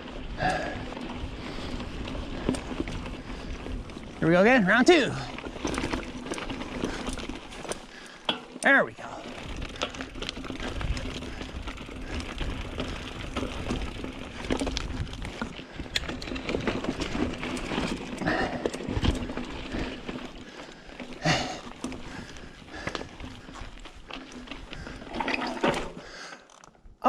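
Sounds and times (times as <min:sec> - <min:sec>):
bike clattering over rocks: 0:00.4 - 0:26.6.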